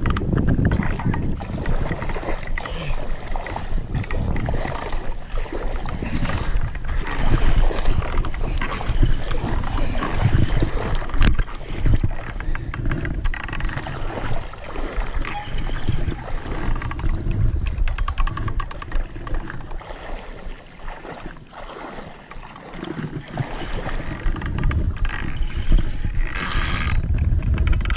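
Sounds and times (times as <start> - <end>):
water splashing around legs: 0.0 - 27.1.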